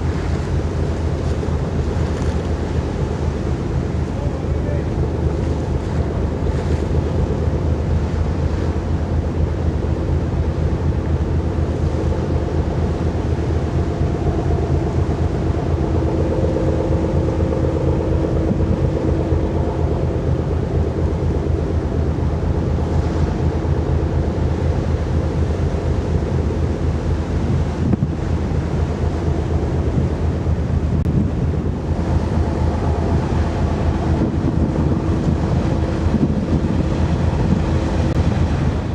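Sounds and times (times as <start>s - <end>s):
faint hum: 0.0s - 38.9s
wind buffeting microphone: 0.0s - 38.9s.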